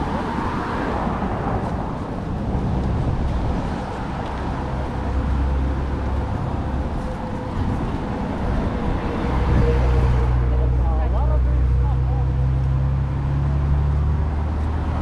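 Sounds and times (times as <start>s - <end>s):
street traffic: 0.0s - 15.0s
wind buffeting microphone: 0.0s - 15.0s
faint engine hum: 1.5s - 15.0s.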